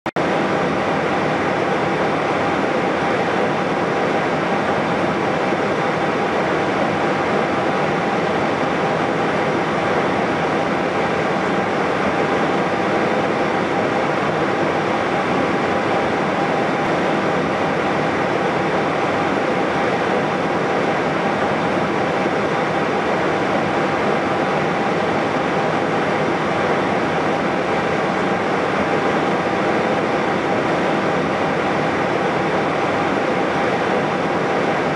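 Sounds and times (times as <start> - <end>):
ventilation fans: 0.1 - 34.9
jet engines idling: 0.2 - 34.9.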